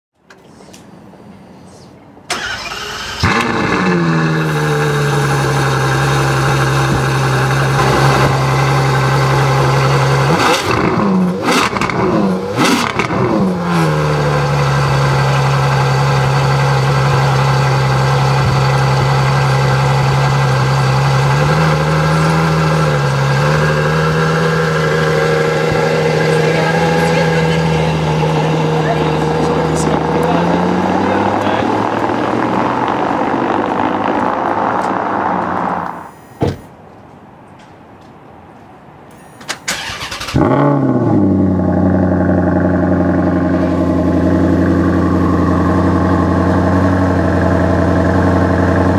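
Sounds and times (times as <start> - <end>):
car engine starting and revving: 2.3 - 36.3, 39.7 - 48.9.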